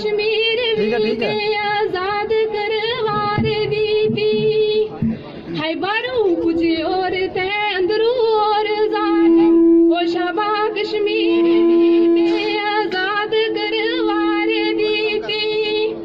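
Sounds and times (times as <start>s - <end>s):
girl singing into a microphone: 0.0s - 16.0s.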